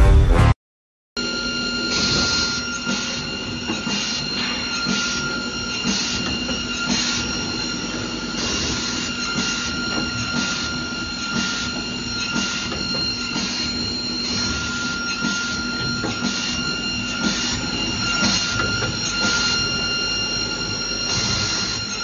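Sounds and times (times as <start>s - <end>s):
saw machine whine: 1.2s - 22.0s.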